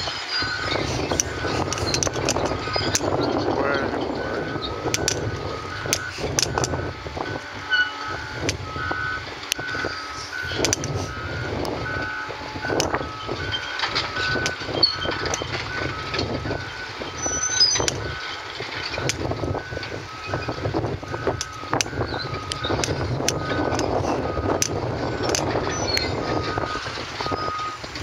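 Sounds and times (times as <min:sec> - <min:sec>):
two-tone backup alarm beeping: 0:00.0 - 0:27.9
diesel excavator engines rumbling: 0:00.0 - 0:28.0.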